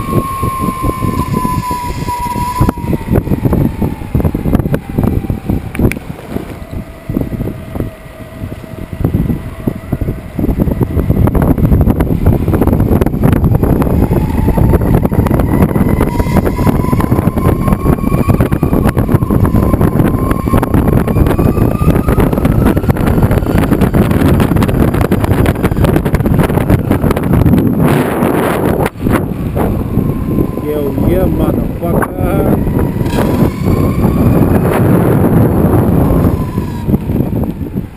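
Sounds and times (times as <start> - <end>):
thin rising whine: 0.0 - 5.6, 6.5 - 37.7
wind buffeting microphone: 0.0 - 37.9.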